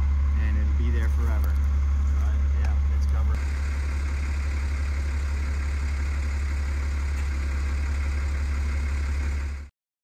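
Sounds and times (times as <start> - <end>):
engine idling: 0.0 - 9.7.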